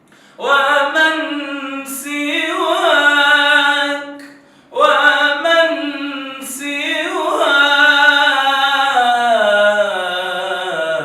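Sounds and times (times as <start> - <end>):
man singing a cappella: 0.4 - 11.0.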